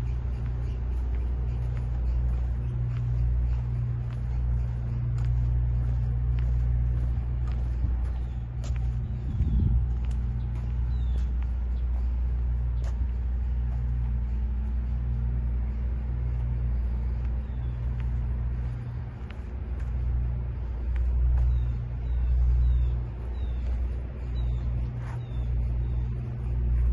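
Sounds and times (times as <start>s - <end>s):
low rumble with hum: 0.0s - 26.9s.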